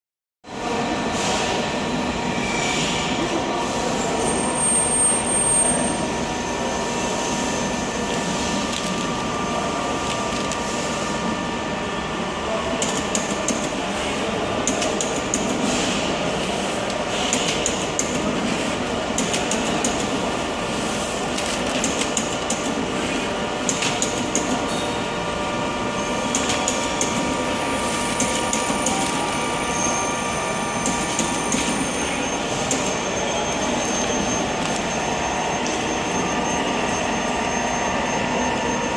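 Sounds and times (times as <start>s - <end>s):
printer machine noise: 0.5s - 38.9s.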